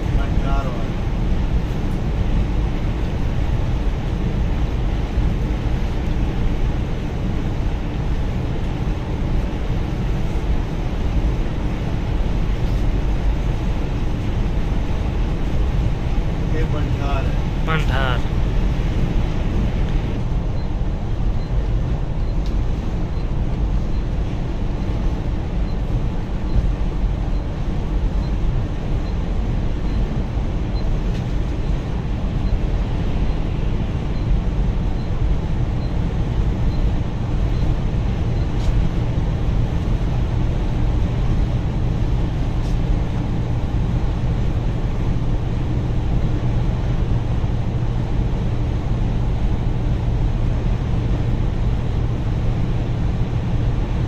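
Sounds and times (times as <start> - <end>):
bus engine running: 0.0 - 54.0
road and tyre noise: 0.0 - 54.0.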